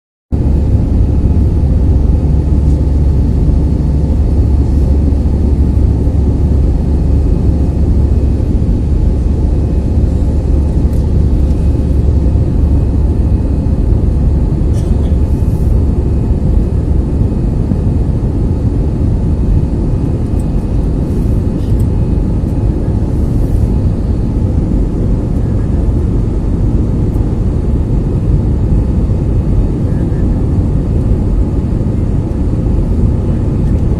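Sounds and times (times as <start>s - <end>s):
airliner engines and rushing air: 0.3s - 33.9s.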